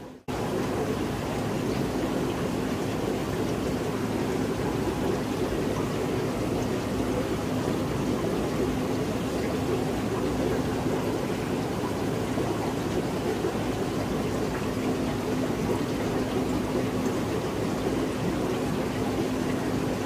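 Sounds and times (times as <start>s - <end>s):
aquarium water rushing and splashing: 0.0s - 20.0s.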